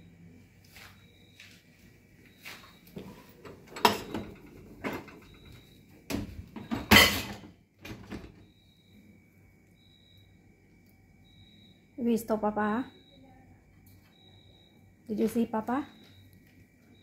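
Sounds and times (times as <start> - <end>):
faint high whine: 0.0 - 7.2, 7.8 - 17.0.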